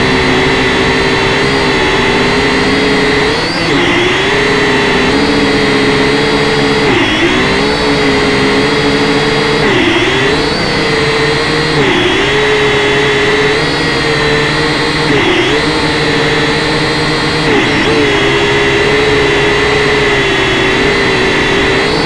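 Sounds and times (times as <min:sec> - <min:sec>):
quadcopter propellers whining: 0:00.0 - 0:22.0.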